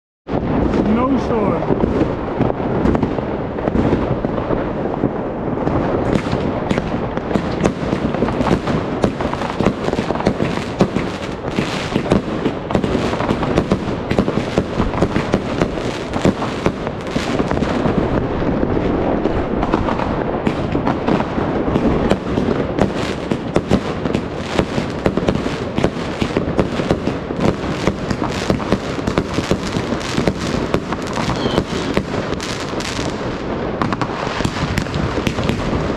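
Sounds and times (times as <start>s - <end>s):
crackling firework pops: 0.3s - 35.9s.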